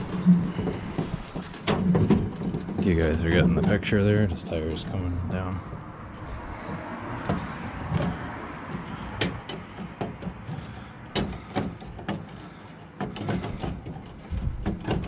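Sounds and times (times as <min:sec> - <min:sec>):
winch clicking and clunking: 0:00.0 - 0:05.0, 0:05.6 - 0:15.0.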